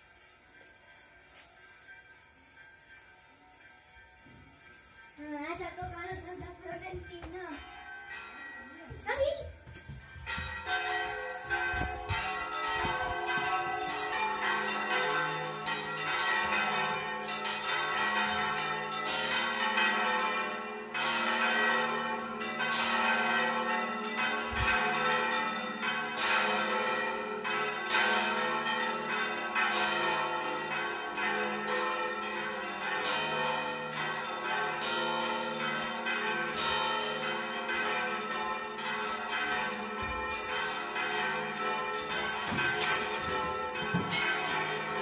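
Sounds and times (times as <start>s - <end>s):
church bells pealing: 0.0s - 45.0s
deep hum of large bells: 0.0s - 45.0s.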